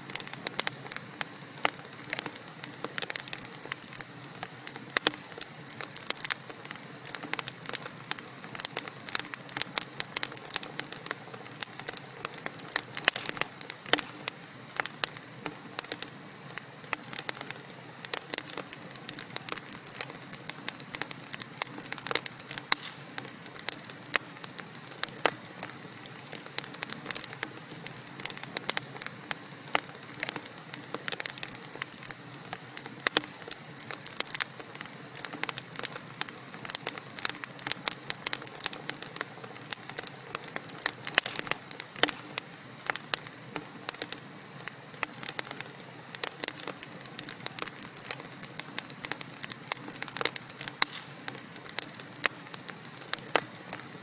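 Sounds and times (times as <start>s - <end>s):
fire hissing: 0.0s - 54.0s
logs crackling and popping: 0.0s - 54.0s.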